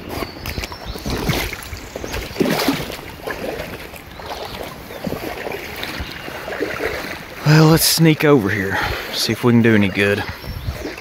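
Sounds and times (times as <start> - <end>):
water splashing around wading legs: 0.0 - 11.0.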